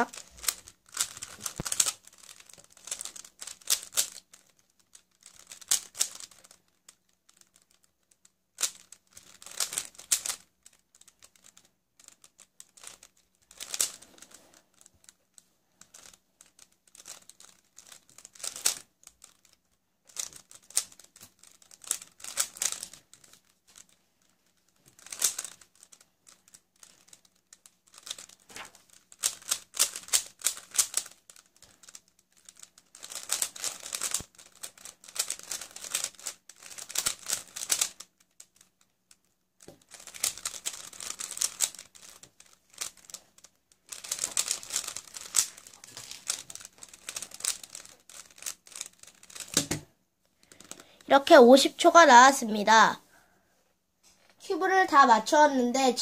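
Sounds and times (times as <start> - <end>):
plastic cube clicking and rattling: 0.0 - 52.0.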